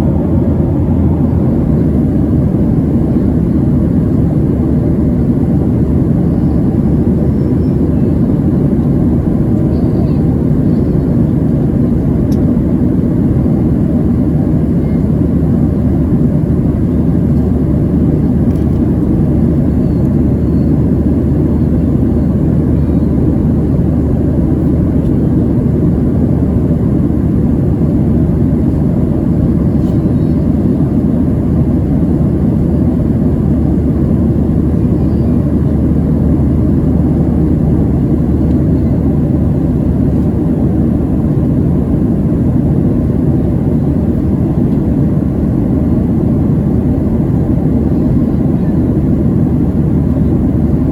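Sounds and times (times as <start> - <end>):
airplane cabin roar: 0.0 - 50.9.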